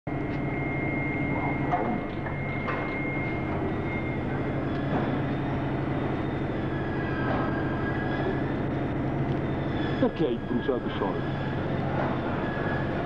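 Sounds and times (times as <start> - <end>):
thin high whine: 0.1 - 13.0.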